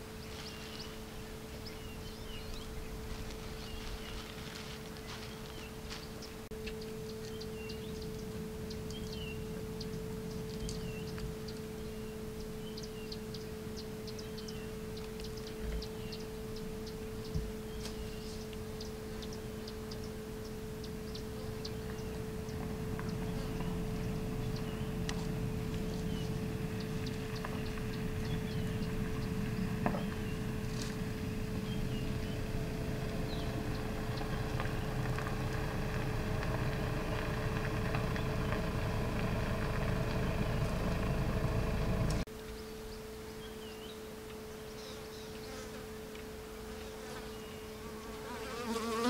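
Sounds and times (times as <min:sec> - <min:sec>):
low rumble: 0:00.0 - 0:42.3
birds chirping: 0:00.0 - 0:45.6
low hum: 0:00.0 - 0:48.0.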